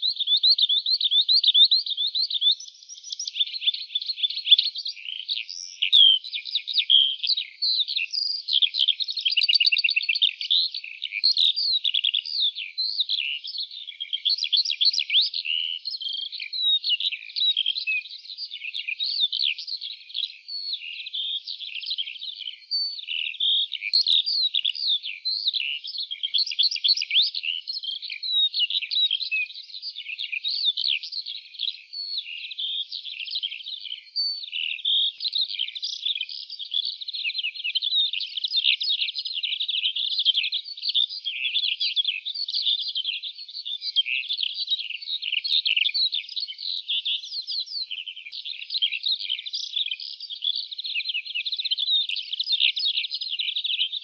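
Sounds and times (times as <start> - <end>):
lark singing chirps and trills: 0.0 - 54.0.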